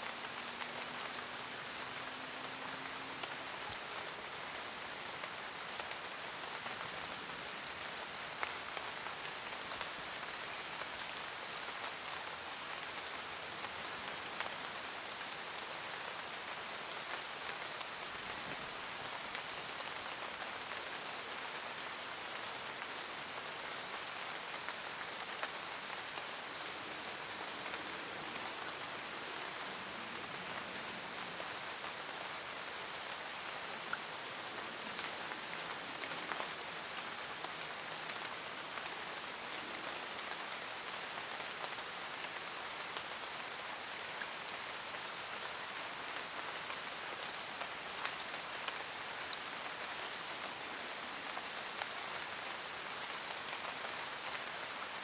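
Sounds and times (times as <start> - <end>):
rain hissing in forest: 0.0 - 55.0
raindrops ticking on leaves: 0.0 - 55.0.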